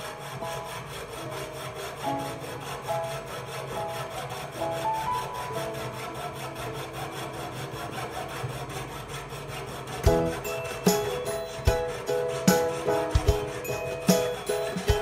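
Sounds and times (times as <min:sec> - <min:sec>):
saw blade rasping through metal: 0:00.0 - 0:15.0.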